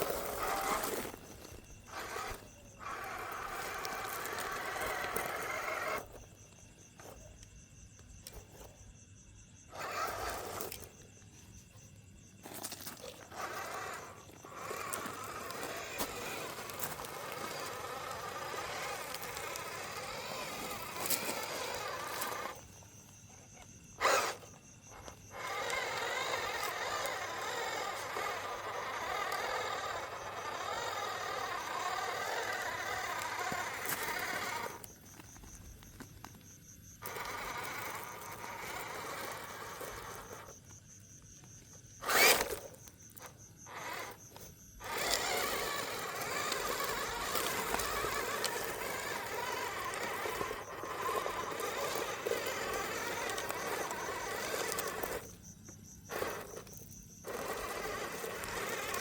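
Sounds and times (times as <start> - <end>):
toy electric motor whirring: 0.0 - 6.4, 9.7 - 11.1, 12.4 - 36.1, 36.8 - 40.8, 41.6 - 59.0.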